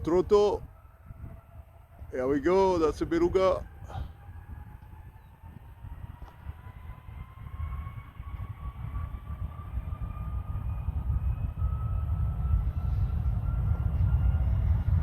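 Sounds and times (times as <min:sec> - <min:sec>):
rising turbine whine: 0:00.0 - 0:15.0
jet engines spooling up: 0:01.6 - 0:15.0.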